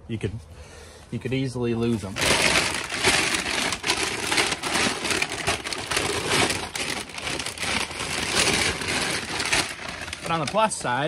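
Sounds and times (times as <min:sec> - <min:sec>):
rustling and crackling: 0:01.3 - 0:11.0.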